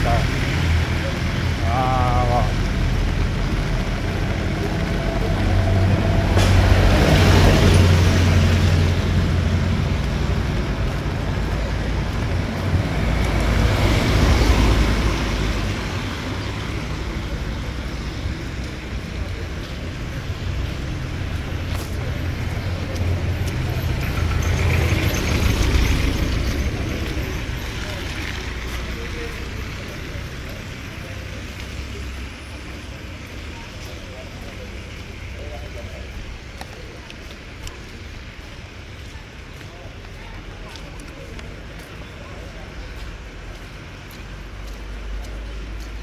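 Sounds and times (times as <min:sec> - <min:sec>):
cars passing on wet road: 0:00.0 - 0:46.0
steady low traffic rumble: 0:00.0 - 0:46.0.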